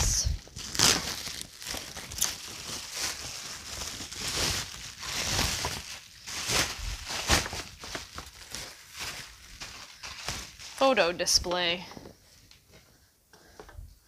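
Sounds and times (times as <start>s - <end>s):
bubble wrap crinkling: 0.0s - 11.8s.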